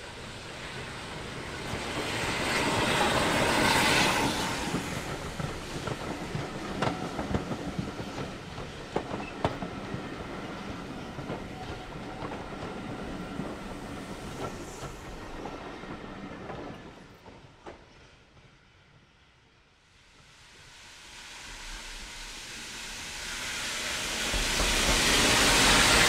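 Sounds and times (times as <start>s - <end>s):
locomotive steam hiss: 0.0s - 16.5s, 19.9s - 26.0s.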